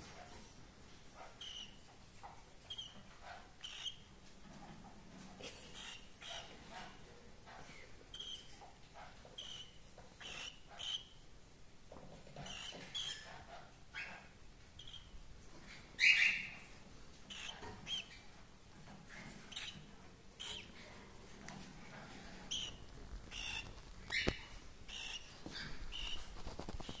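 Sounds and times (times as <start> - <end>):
cockatiels chirping: 1.2 - 4.6, 5.6 - 11.2, 12.3 - 18.4, 19.1 - 27.0.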